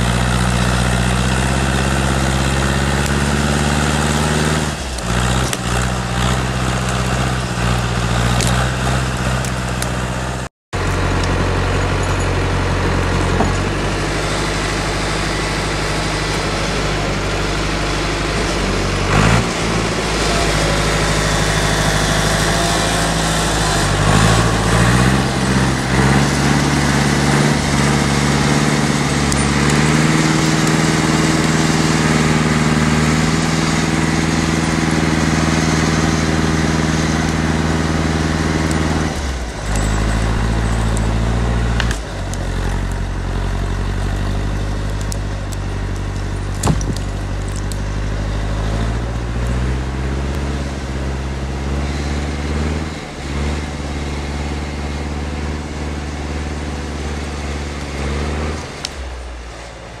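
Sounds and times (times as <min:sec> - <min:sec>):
diesel engine under load: 0:00.0 - 1:00.0.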